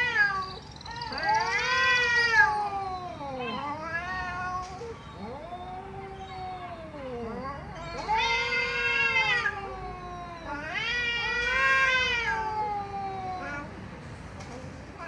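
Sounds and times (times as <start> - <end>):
cat meowing: 0.0 - 13.8.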